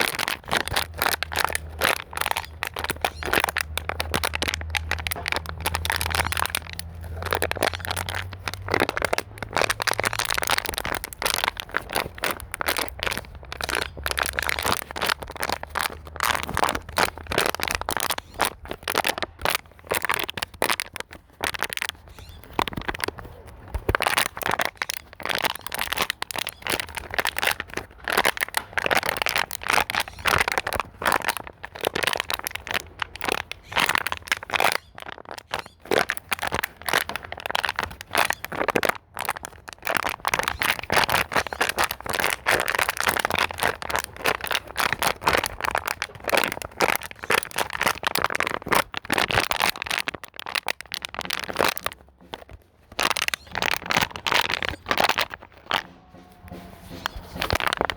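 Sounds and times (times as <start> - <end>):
plastic bottle crinkling: 0.0 - 57.9.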